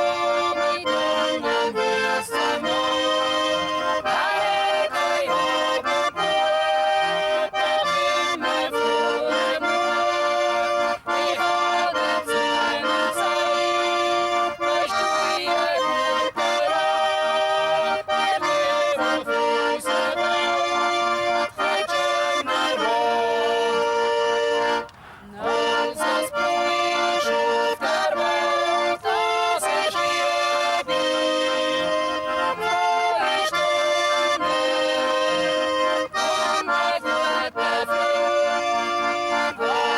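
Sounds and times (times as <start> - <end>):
accordion playing folk music: 0.0 - 39.9.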